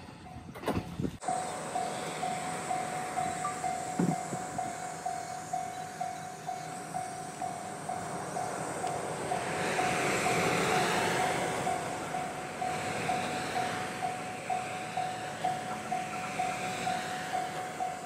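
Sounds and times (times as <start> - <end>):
level-crossing warning bell ringing: 1.2 - 18.0.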